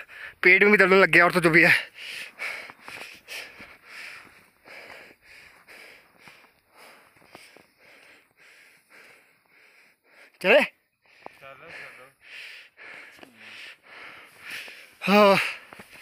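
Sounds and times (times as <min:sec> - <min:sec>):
person breathing hard: 0:00.0 - 0:00.4, 0:01.8 - 0:10.4, 0:11.0 - 0:16.0.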